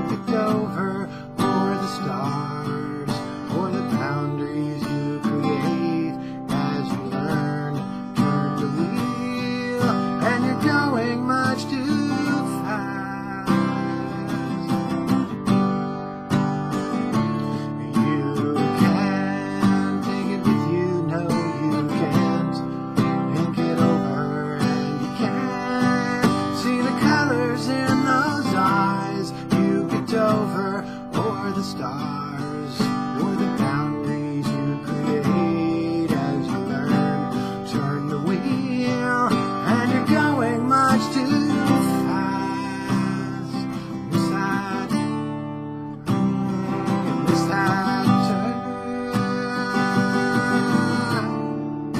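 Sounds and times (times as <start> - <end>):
acoustic guitar strumming: 0.0 - 51.9
man singing: 0.0 - 51.9.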